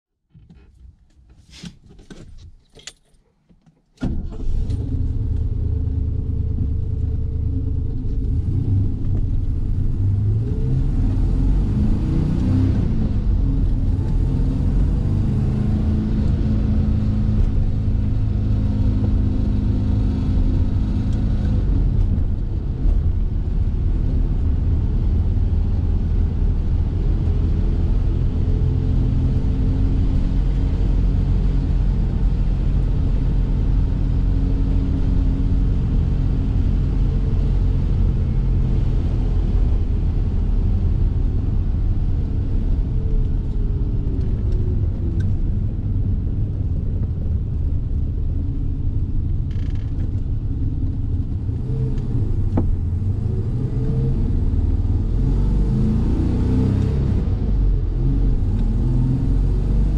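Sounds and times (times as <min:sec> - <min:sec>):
car engine from inside cabin: 0:04.0 - 0:59.9.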